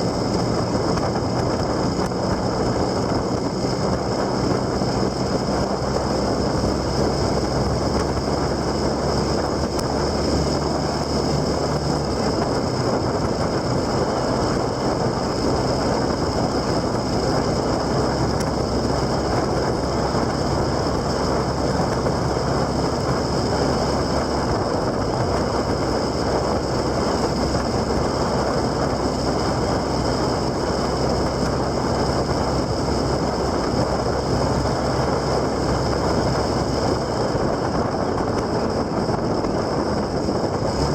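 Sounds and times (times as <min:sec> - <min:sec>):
low engine hum: 0:00.0 - 0:40.9
wind rush: 0:00.0 - 0:40.9.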